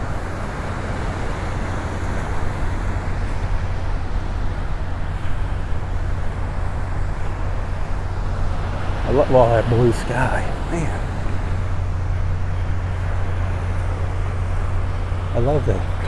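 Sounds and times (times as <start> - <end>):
small waves breaking on sand: 0.0 - 16.0.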